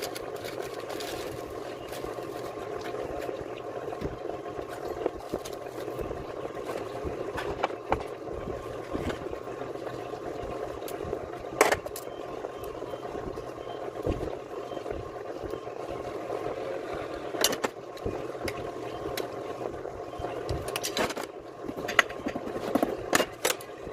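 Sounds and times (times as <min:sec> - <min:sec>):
faint constant tone: 0:00.0 - 0:23.9
mechanical running hum: 0:00.0 - 0:23.9.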